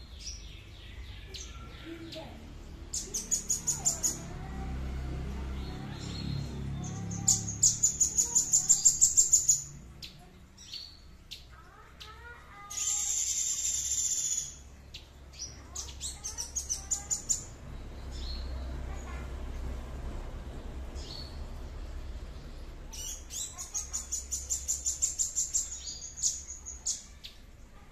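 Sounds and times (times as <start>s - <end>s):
songbird singing: 0.0s - 19.5s, 20.6s - 27.8s.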